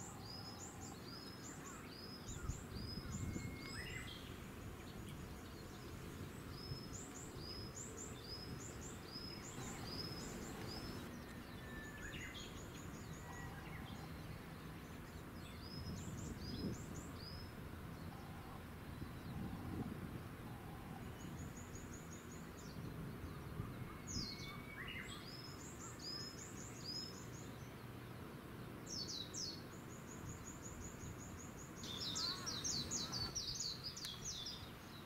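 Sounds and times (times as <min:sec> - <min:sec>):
small songbirds chirping: 0:00.0 - 0:35.0.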